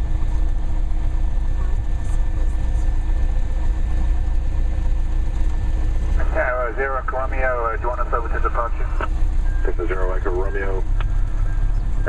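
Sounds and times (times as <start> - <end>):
plane engine droning: 0.0 - 12.0.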